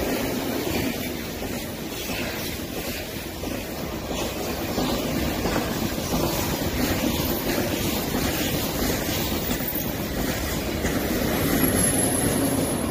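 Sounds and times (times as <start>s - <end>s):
train wheels running on rails: 0.0s - 12.9s.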